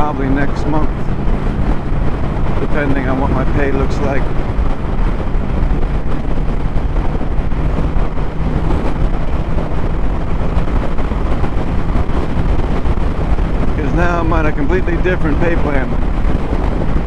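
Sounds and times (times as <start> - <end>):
motorcycle engine hum: 0.0 - 17.0
wind rushing over microphone: 0.0 - 17.0.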